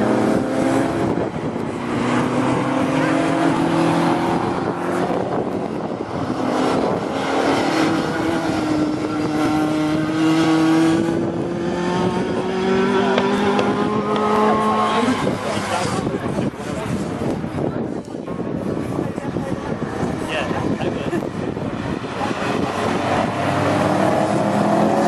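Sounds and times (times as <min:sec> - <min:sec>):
car engine accelerating: 0:00.0 - 0:17.4, 0:19.8 - 0:25.0
rally car engines racing: 0:00.0 - 0:25.0.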